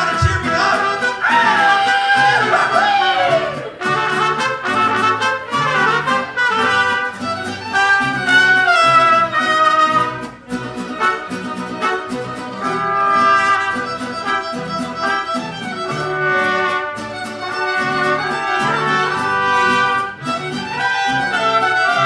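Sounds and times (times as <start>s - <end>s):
trumpets playing melody: 0.0s - 15.3s, 15.9s - 22.0s
strummed guitars: 0.0s - 22.0s
violins: 0.0s - 22.0s.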